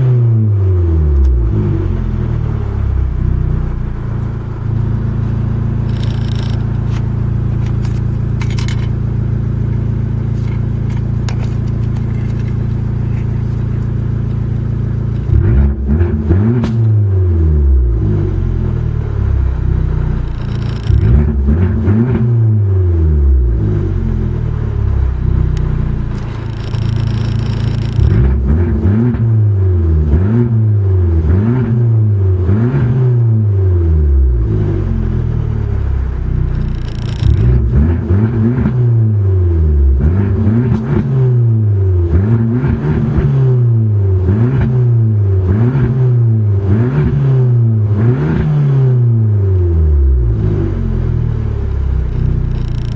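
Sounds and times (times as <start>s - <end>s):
car engine revving: 0.0s - 52.9s.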